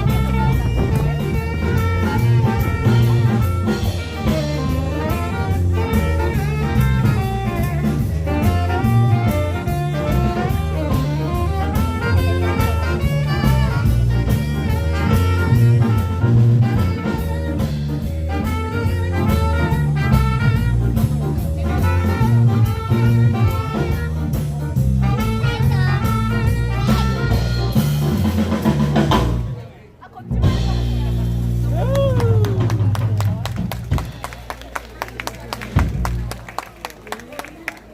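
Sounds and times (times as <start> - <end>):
up-tempo jazz with horns and drums: 0.0 - 37.9.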